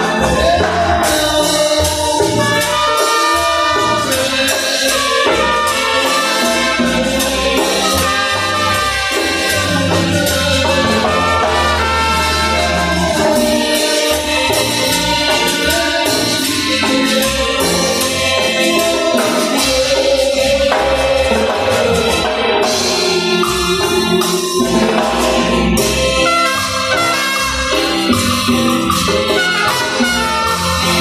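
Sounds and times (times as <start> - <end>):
upbeat synthesized gospel music: 0.0 - 31.0.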